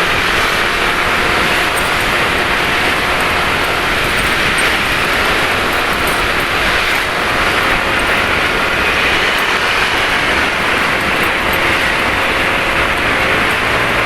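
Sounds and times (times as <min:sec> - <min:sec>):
engine and road noise: 0:00.0 - 0:14.0
motorbike traffic: 0:00.0 - 0:14.0.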